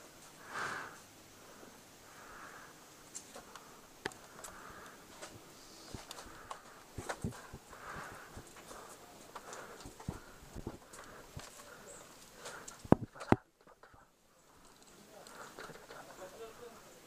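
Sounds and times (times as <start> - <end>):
slow steady breathing: 0.0 - 17.0.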